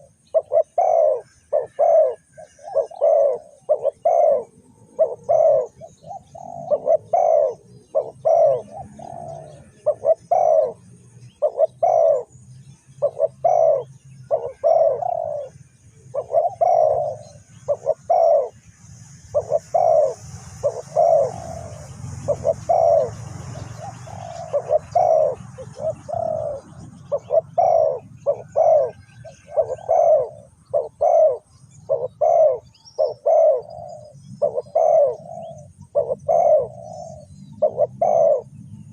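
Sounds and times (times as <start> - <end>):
doves cooing: 0.0 - 12.4, 13.0 - 18.6, 19.3 - 38.9
small birds chirping: 0.0 - 38.9.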